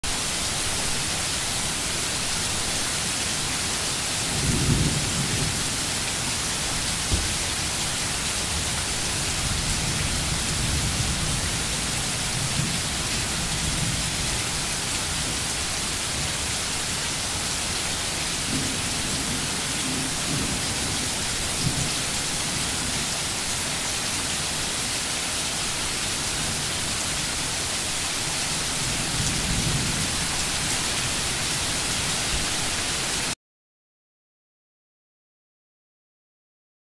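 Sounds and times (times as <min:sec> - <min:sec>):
steady rain hissing: 0:00.1 - 0:33.4.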